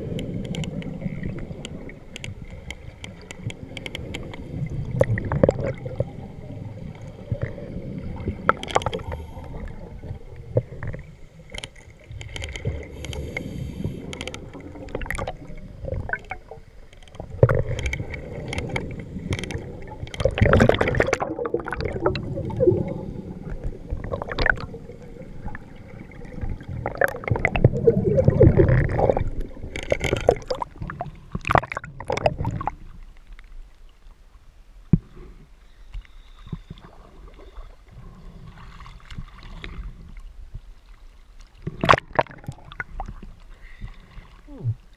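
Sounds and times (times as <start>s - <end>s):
exhaled bubbles gurgling underwater: 0.0s - 33.2s, 36.4s - 40.7s, 41.5s - 44.9s.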